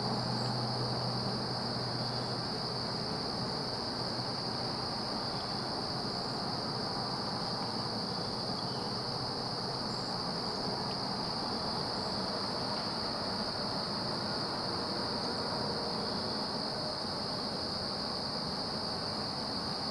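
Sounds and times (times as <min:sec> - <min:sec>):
insects droning: 0:00.0 - 0:19.9
outdoor background hiss: 0:00.0 - 0:19.9.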